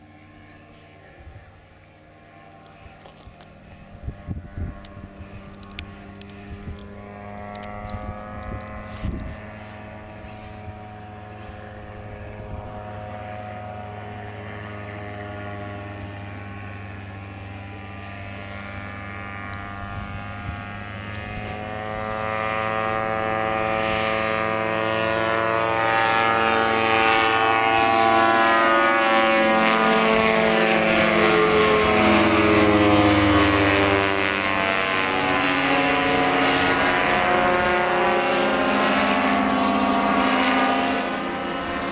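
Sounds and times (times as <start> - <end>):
ultralight plane engine droning: 0.0 - 41.9.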